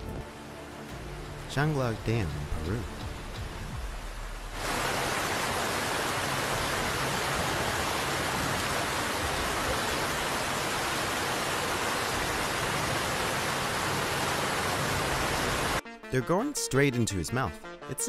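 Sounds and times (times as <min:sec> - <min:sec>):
water rushing down hillside: 0:00.0 - 0:15.8.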